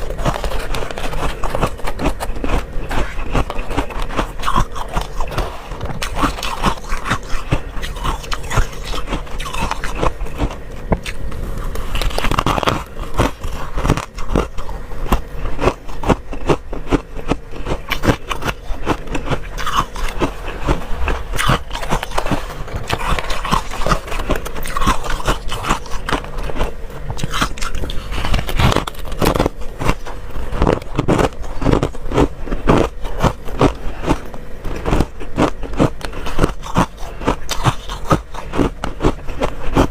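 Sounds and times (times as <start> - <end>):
chewing and crunching frost: 0.0 - 39.9.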